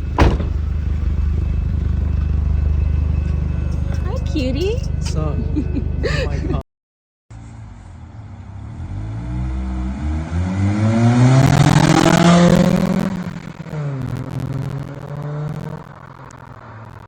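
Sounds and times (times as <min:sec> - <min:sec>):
vehicle engine accelerating: 0:00.0 - 0:06.6, 0:07.4 - 0:17.0.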